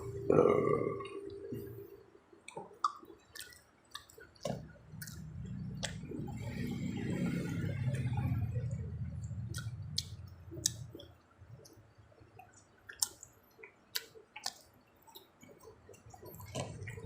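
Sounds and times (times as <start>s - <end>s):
low steady hum: 0.0s - 17.0s
chewing with wet mouth smacks: 2.4s - 7.2s, 7.9s - 17.0s.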